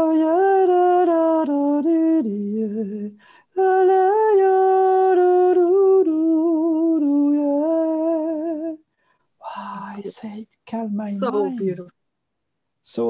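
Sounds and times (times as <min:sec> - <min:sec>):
man singing wordless chant: 0:00.0 - 0:08.8, 0:09.9 - 0:11.7.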